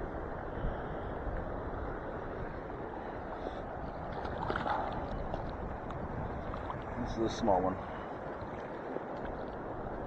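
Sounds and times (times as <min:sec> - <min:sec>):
wind buffeting the microphone: 0:00.0 - 0:10.0
lake waves lapping at shore: 0:00.6 - 0:10.0.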